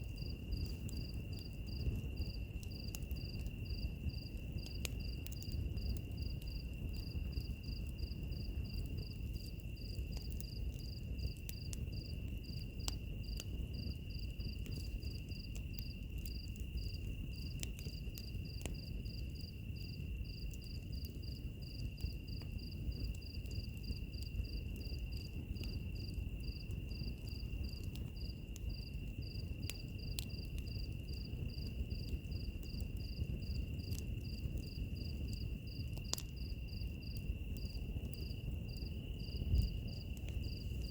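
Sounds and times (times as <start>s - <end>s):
fire crackling pops: 0.0s - 40.9s
insect chirping: 0.0s - 40.9s
wood fire rumbling: 0.0s - 40.9s.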